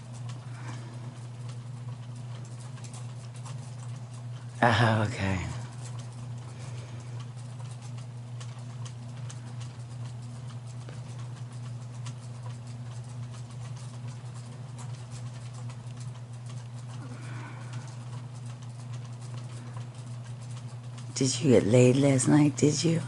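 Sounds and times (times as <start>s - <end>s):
light clicks and ticks: 0.1s - 4.6s, 5.4s - 22.9s.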